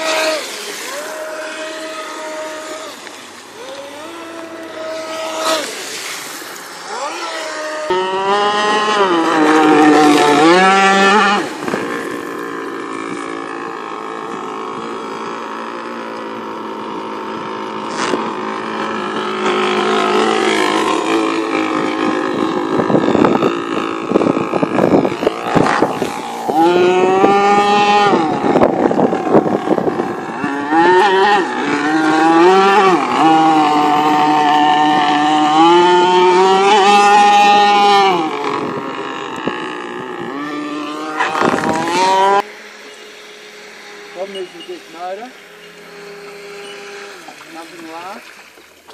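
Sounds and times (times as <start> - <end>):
model speedboat motor whining: 0.0 - 48.9.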